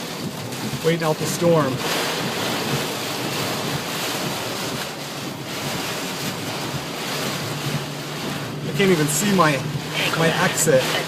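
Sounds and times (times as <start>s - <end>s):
heavy rain on a car roof: 0.0s - 11.0s
storm wind: 0.0s - 11.0s.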